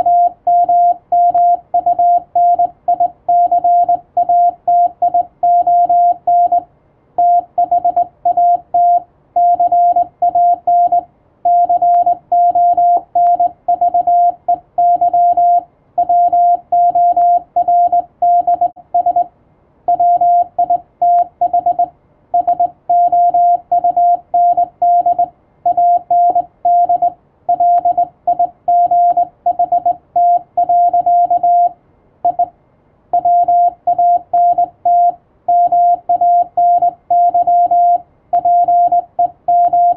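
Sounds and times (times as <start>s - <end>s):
morse code beeps: 0.0s - 19.3s, 19.9s - 32.5s, 33.2s - 39.9s.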